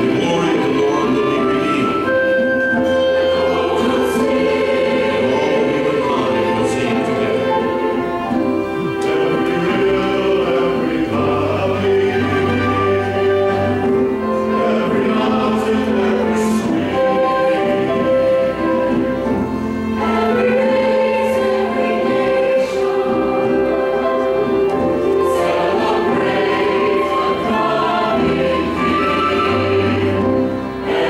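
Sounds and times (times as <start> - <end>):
choir singing: 0.0 - 31.0
piano: 0.0 - 31.0
strings: 0.0 - 31.0.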